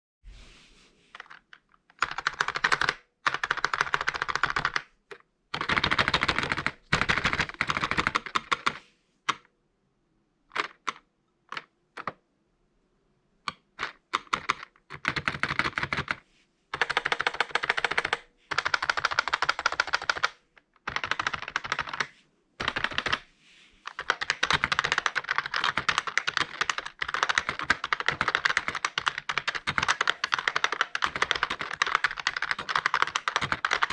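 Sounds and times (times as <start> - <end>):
typing on a keyboard: 1.2 - 9.5, 10.5 - 12.2, 13.5 - 16.2, 16.8 - 23.2, 23.9 - 33.9.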